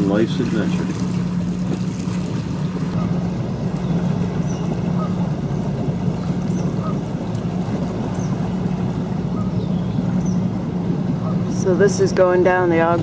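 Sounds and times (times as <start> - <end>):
boat engine humming: 0.0 - 13.0
water washing along hull: 0.0 - 13.0.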